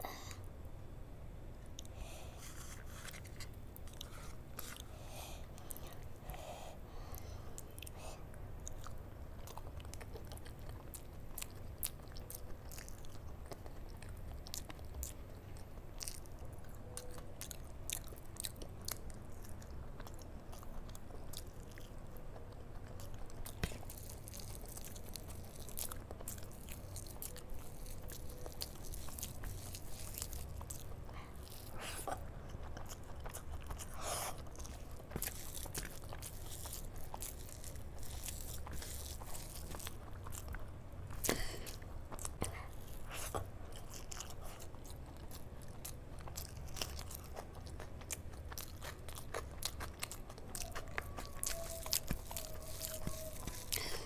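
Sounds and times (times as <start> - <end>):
steady low hum: 0.0 - 54.0
chewing and biting food: 1.6 - 54.0.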